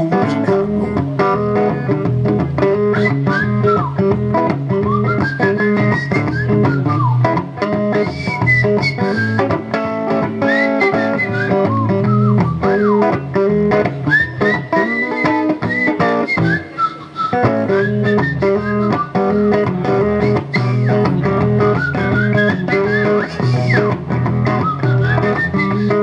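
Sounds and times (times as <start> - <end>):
blues band playing: 0.0 - 26.0
lead guitar with bent notes: 0.0 - 26.0.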